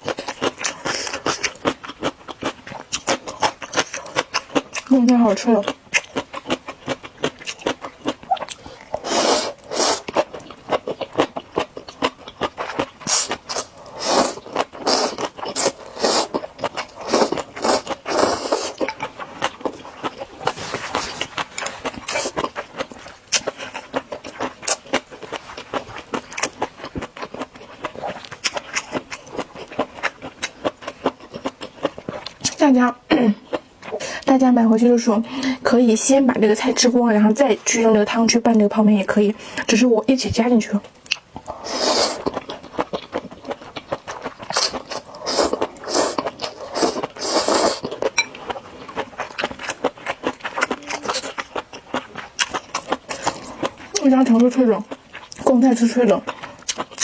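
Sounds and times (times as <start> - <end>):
wet slurping and chewing: 0.0 - 32.6, 40.8 - 57.0.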